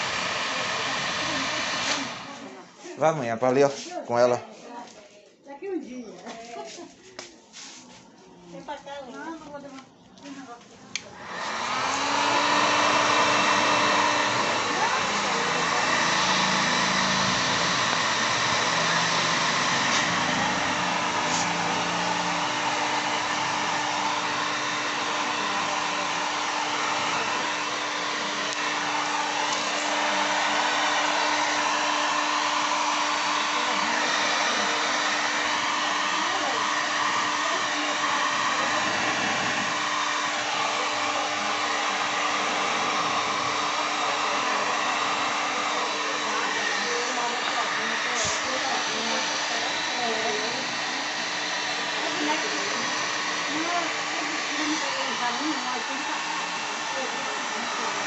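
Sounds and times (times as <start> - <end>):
heat gun blowing: 0.0 - 3.6, 11.0 - 58.0.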